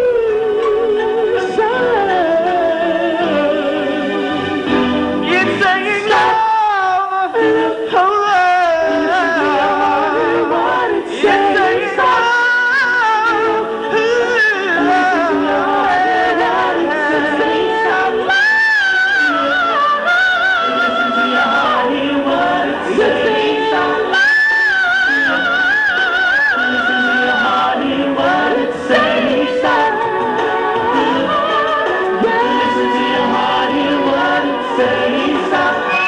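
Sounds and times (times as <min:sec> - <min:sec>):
male vocal trio singing ballad: 0:05.2 - 0:36.0.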